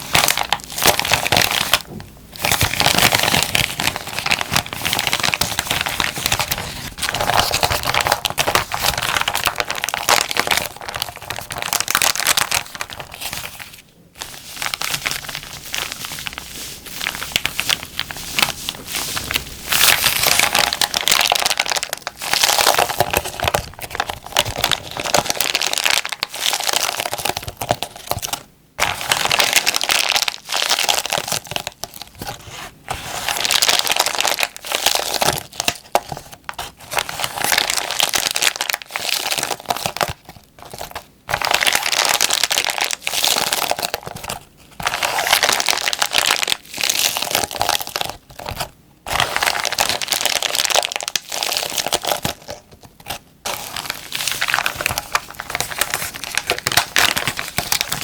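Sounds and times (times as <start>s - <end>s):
plastic bag crinkling: 0.0s - 58.0s.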